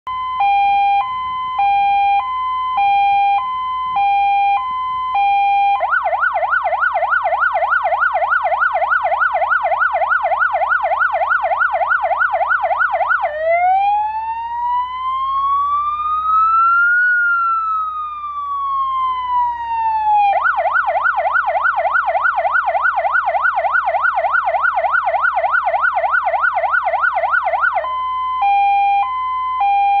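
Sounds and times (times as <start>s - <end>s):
electronic siren cycling tones: 0.1s - 30.0s.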